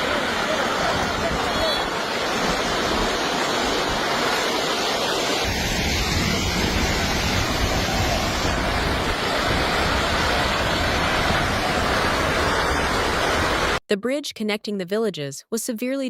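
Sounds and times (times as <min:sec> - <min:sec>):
rushing floodwater: 0:00.0 - 0:13.8.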